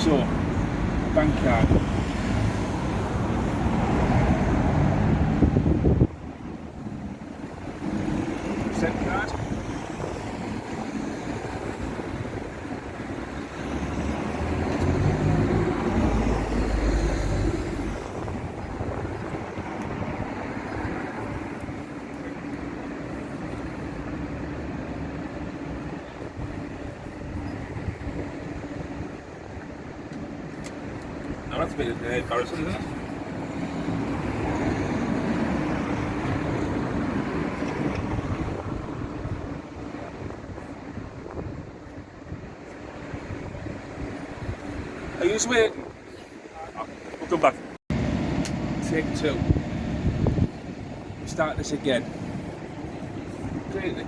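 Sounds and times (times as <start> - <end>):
wind buffeting microphone: 0.0 - 23.0, 24.0 - 30.1, 30.8 - 54.0
street traffic rumble: 0.0 - 54.0.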